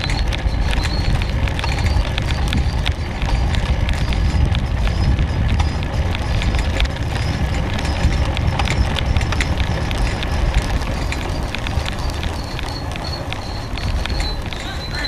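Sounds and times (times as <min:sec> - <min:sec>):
bike rattling clicks: 0:00.0 - 0:15.0
wind noise on microphone: 0:00.0 - 0:15.0.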